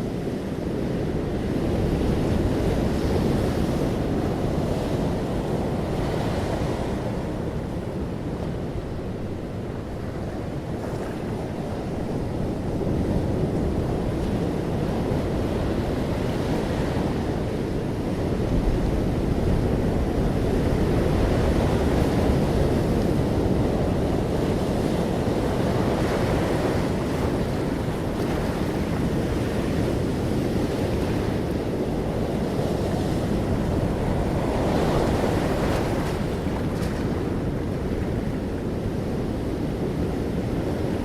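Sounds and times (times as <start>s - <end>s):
ocean waves breaking on shore: 0.0s - 41.0s.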